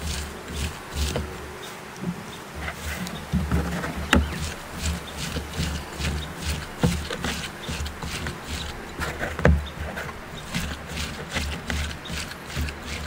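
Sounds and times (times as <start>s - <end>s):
onion crunching and rubbing: 0.0s - 1.4s, 3.6s - 13.0s.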